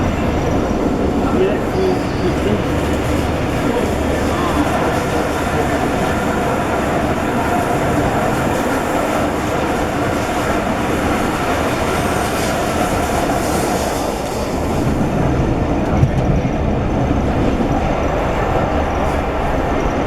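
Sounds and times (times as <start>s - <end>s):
rumble of wheels on rails: 0.0s - 20.0s.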